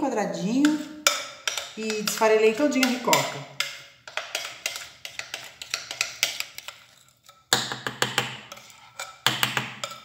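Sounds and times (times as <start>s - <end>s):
spoon tapping and scraping bowl: 0.4s - 10.0s.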